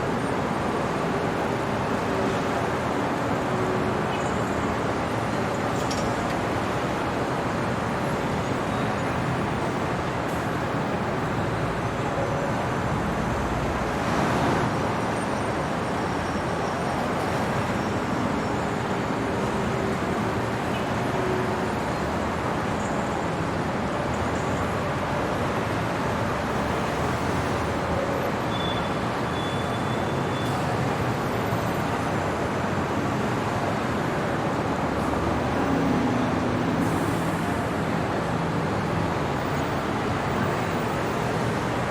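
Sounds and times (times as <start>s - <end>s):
city traffic passing: 0.0s - 41.9s.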